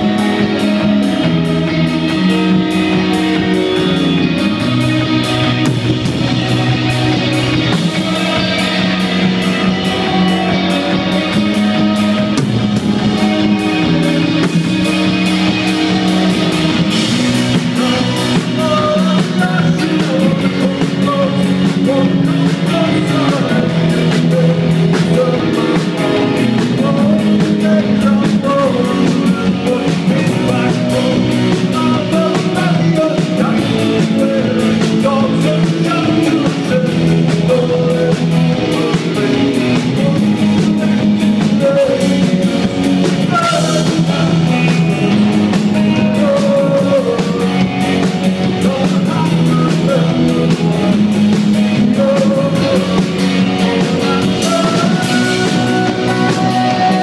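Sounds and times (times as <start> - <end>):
drum kit: 0.0 - 57.0
guitars: 0.0 - 57.0.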